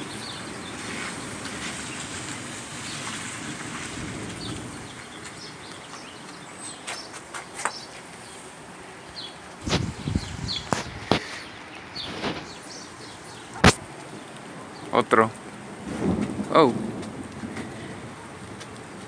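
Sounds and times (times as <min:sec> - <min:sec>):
thunder rumbling: 0:00.0 - 0:06.2, 0:09.6 - 0:19.0.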